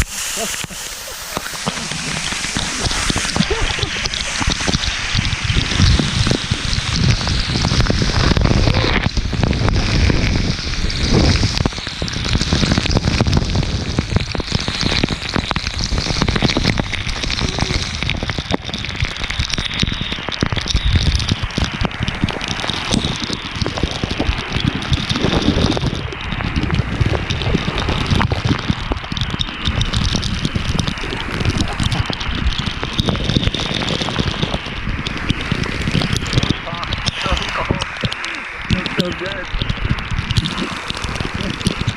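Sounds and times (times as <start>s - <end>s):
waterfall pouring and splashing: 0.0s - 41.9s.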